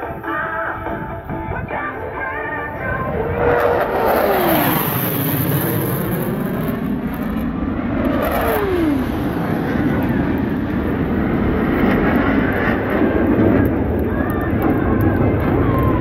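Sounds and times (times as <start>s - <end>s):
jets flying past roaring: 1.6s - 16.0s.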